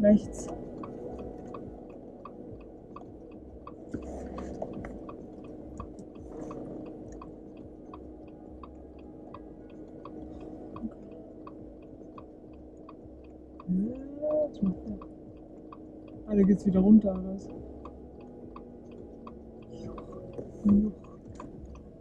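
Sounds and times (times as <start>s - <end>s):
car engine hum and rumble: 0.0s - 22.0s
rapid light ticking: 0.0s - 22.0s.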